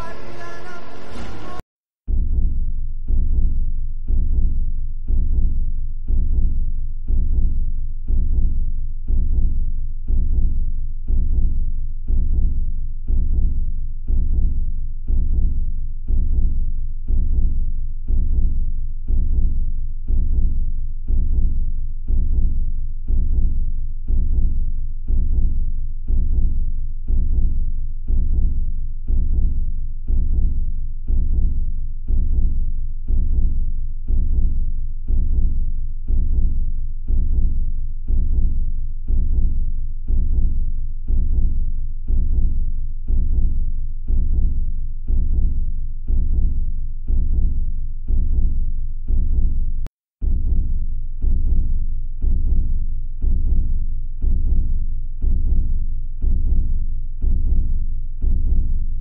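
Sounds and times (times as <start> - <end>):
music with deep double drum beat: 2.1 - 59.0.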